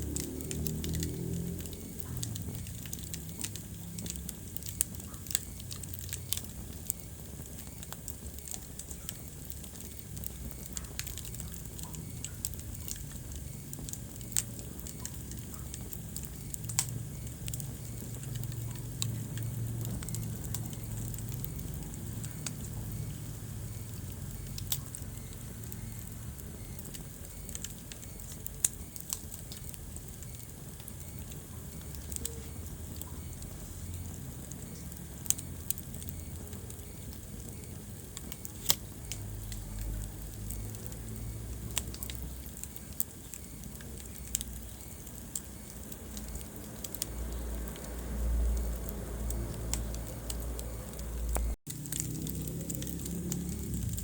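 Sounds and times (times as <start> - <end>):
fire crackling and rumbling: 0.0 - 54.0.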